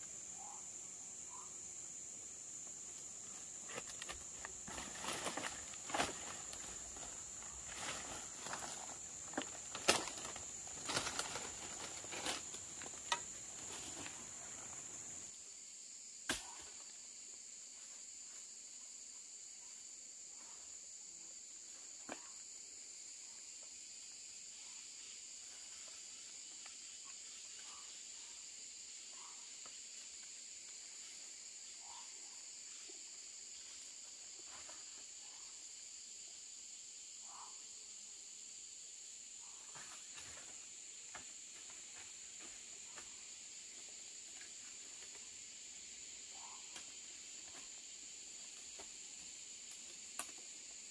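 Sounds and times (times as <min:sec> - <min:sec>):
forest insects droning: 0:00.0 - 0:50.9.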